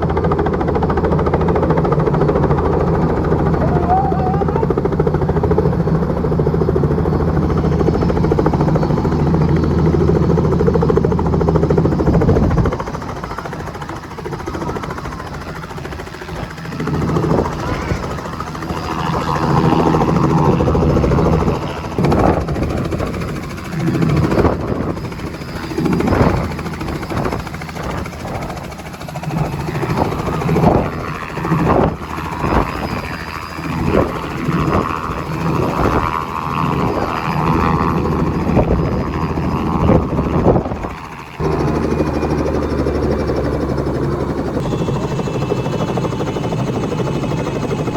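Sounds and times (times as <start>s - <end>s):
helicopter engine and rotor: 0.0s - 47.9s.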